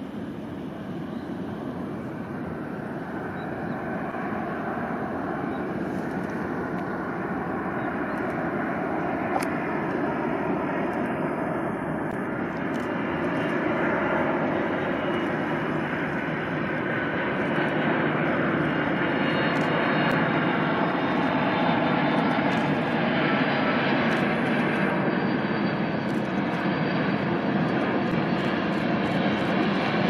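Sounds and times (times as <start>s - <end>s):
jet engines rushing with high whine: 0.0s - 30.0s.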